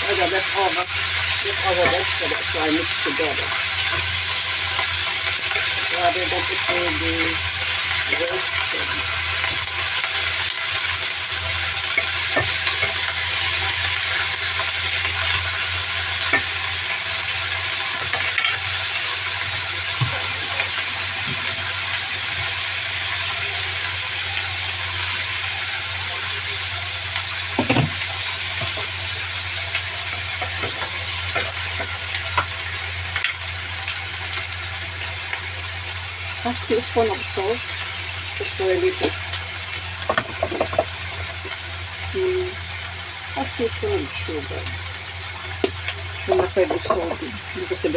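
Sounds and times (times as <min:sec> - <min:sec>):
vegetables sizzling in hot oil: 0:00.0 - 0:47.9.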